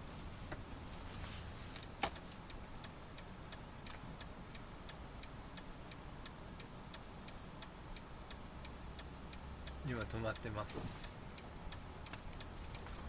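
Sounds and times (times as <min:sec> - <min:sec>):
light regular ticking: 0:01.7 - 0:13.0.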